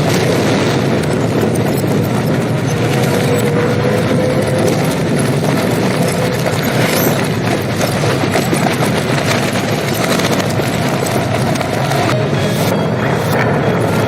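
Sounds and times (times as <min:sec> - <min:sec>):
reversed gunfire and explosions: 0:00.0 - 0:14.0.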